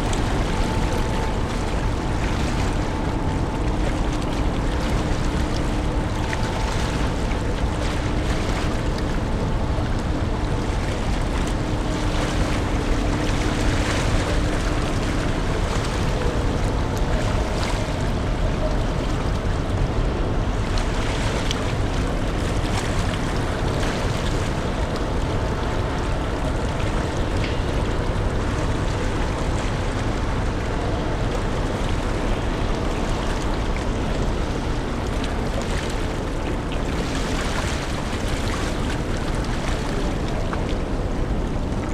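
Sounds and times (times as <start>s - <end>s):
faint steady hum: 0.0s - 41.9s
rushing water: 0.0s - 41.9s
ship engines rumbling: 0.0s - 41.9s
wind: 0.0s - 41.9s.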